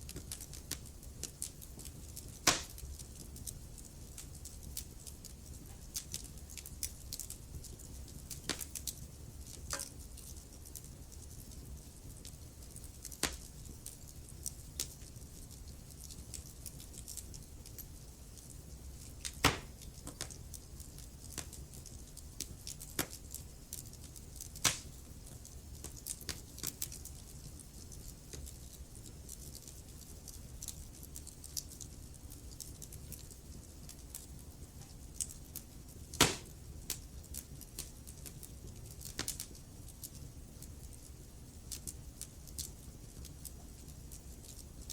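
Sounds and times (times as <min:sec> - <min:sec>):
fire crackling and rumbling: 0:00.0 - 0:44.9
fire popping and snapping: 0:00.0 - 0:44.9.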